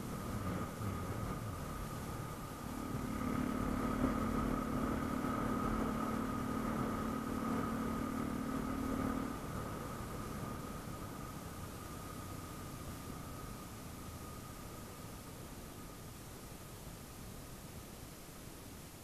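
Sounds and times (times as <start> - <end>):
vehicle engine hum: 0.0 - 18.2.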